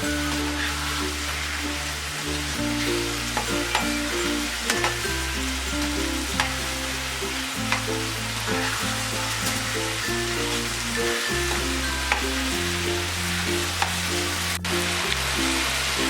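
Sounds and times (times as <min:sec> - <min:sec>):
background music with bass: 0:00.0 - 0:16.0
food sizzling in a pan: 0:00.0 - 0:16.0.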